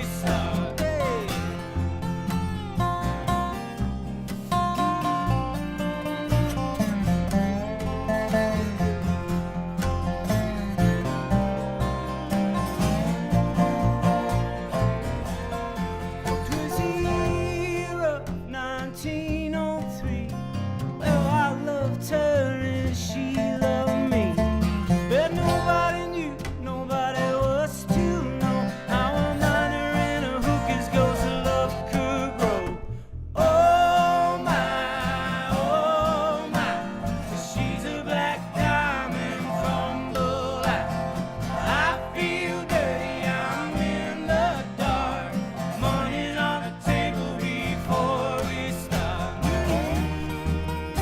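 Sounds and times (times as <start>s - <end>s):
bluegrass band playing: 0.0s - 51.0s.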